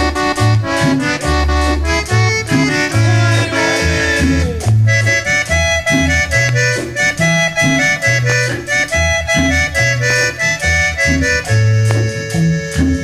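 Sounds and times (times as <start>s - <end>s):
accordion melody: 0.0s - 13.0s
bouncing bass line: 0.0s - 13.0s
steady percussion: 0.0s - 13.0s.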